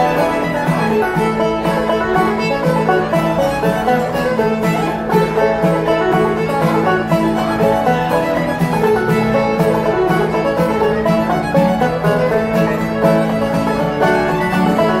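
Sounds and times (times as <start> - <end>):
string band playing: 0.0 - 15.0.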